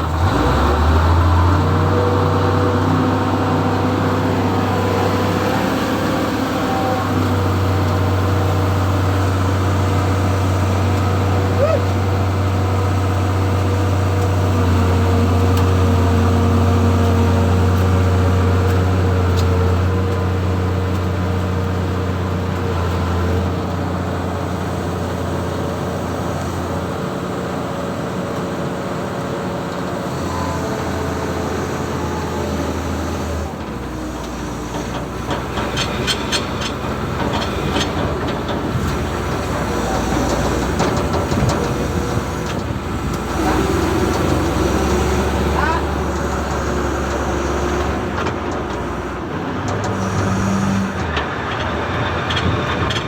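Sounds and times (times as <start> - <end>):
engine droning: 0.0 - 53.0.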